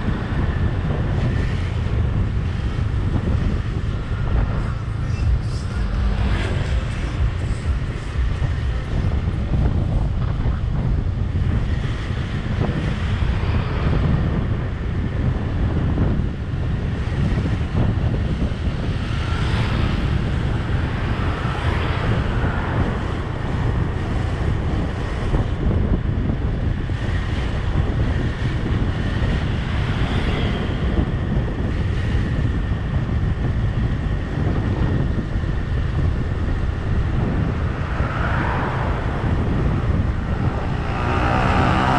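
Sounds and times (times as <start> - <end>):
road noise: 0.0 - 41.9
vehicle engine: 0.0 - 41.9
wind buffeting microphone: 0.0 - 41.9.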